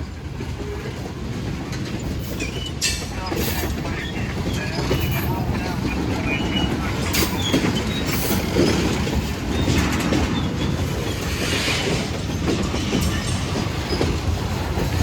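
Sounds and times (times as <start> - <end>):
freight cars rolling past: 0.9 - 15.0.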